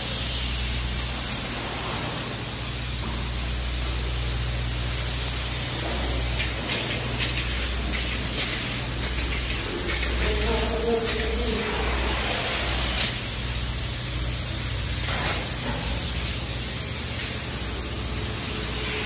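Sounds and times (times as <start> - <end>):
spray foam gun hissing: 0.0 - 19.0.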